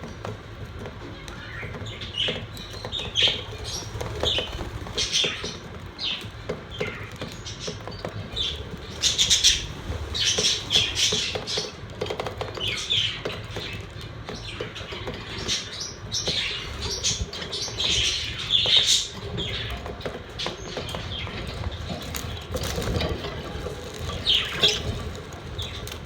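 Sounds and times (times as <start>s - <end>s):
budgerigars chirping and chattering: 1.2s - 26.0s.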